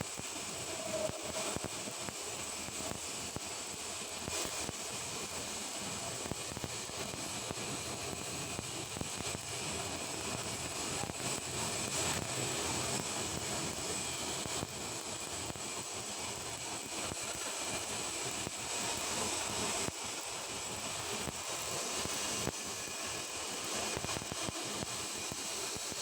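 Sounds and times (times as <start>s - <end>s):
welding arc hissing and crackling: 0.0s - 26.0s.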